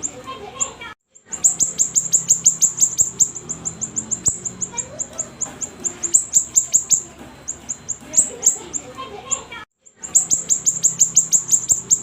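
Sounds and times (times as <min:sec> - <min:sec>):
songbird chattering: 0:00.0 - 0:12.0.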